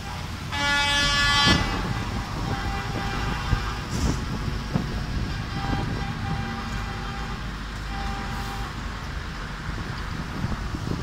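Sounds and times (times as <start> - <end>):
diesel trucks rumbling past: 0.0 - 11.0.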